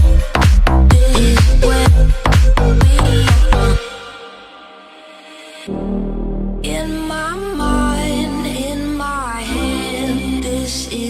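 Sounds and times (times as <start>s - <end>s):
song with singing and bass: 0.0s - 11.0s.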